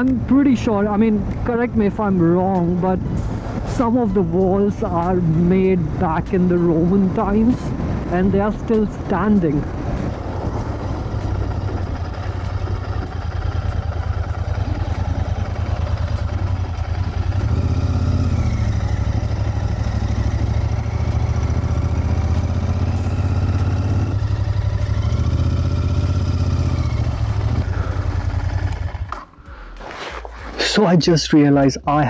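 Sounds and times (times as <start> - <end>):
motorcycle engine pulsing exhaust: 3.0 - 29.4.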